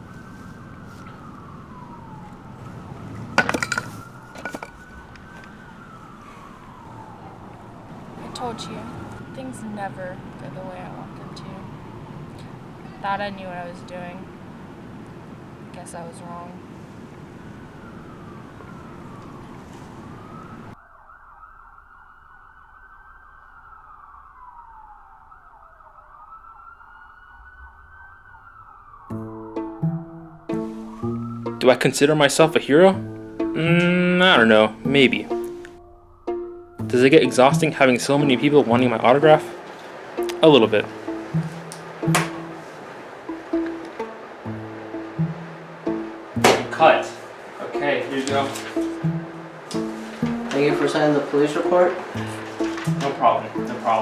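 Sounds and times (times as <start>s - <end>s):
outdoor background noise: 0.0s - 54.0s
police siren wailing: 0.0s - 54.0s.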